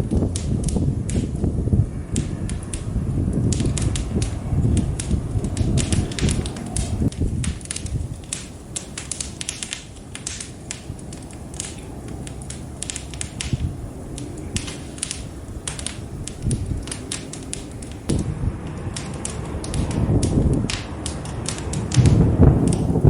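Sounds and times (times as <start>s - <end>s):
low rumble of flames: 0.0s - 23.0s
wood fire popping and snapping: 0.0s - 23.0s.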